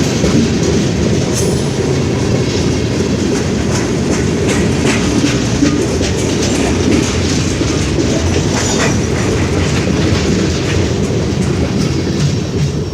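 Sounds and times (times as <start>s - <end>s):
rumble of train wheels on rail: 0.0s - 12.9s
wheels clicking over rail joints: 0.0s - 12.9s.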